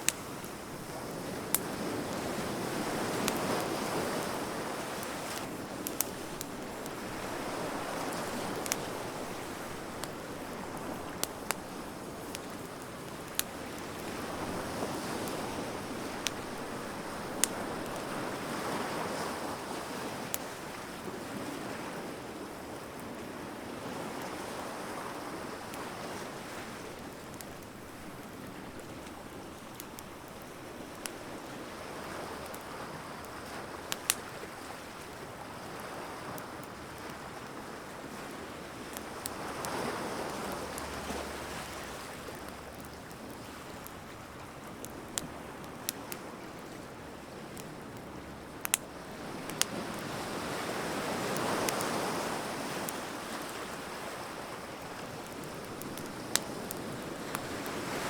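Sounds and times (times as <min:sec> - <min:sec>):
bonfire crackling and popping: 0:00.0 - 0:21.3, 0:23.7 - 0:58.0.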